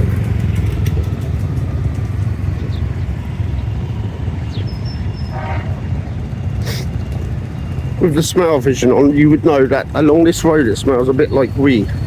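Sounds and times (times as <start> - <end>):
rumble of passing vehicles: 0.0 - 12.0.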